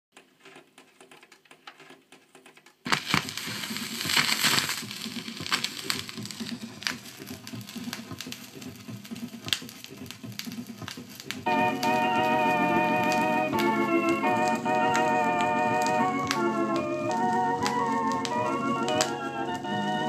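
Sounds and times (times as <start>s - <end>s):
vinyl record crackle and pops: 0.2s - 20.0s.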